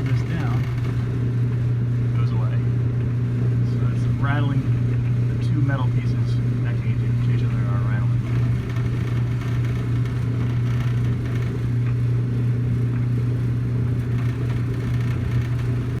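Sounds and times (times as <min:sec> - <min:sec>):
buzzing metal rattle: 0:00.0 - 0:01.6, 0:03.0 - 0:16.0
clothes dryer humming: 0:00.0 - 0:16.0.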